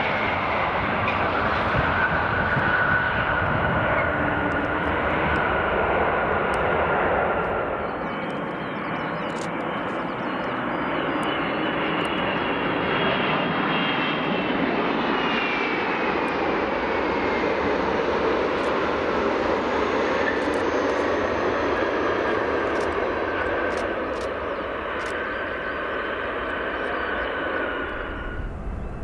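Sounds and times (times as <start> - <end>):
jet engines on runway rollout: 0.0 - 29.0
jet engines whining on approach: 0.0 - 29.0.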